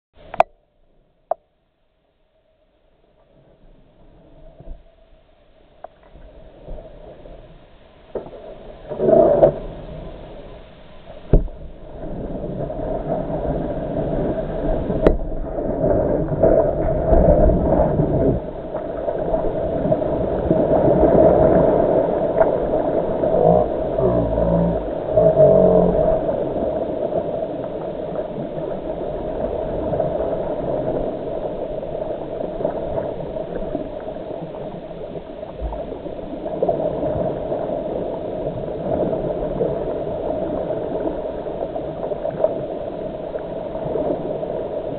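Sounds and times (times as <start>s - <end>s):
water splashing around kayak: 3.3s - 44.9s.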